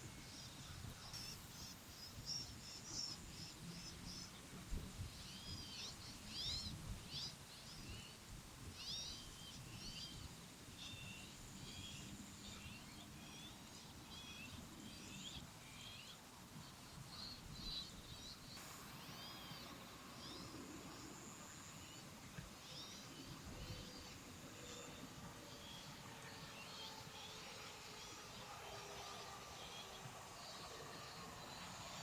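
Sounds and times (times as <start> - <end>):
small birds chirping: 0.3 - 32.0.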